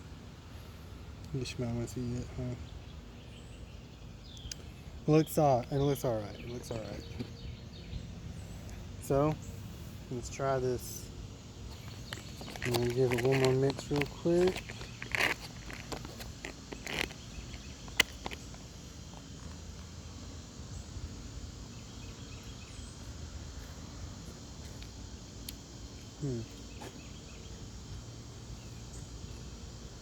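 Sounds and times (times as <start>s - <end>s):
faint insect chirping: 0.0s - 30.0s.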